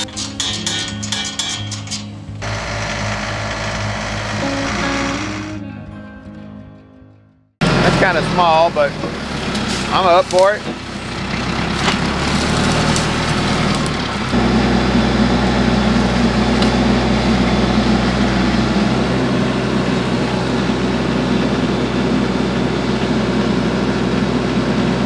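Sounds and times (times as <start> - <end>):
tractor diesel engine running: 1.7 - 5.6, 7.6 - 25.0.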